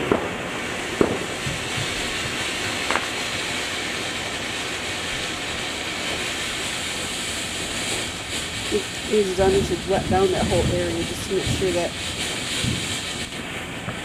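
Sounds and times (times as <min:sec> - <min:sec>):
firework sparks hissing: 0:00.0 - 0:14.0.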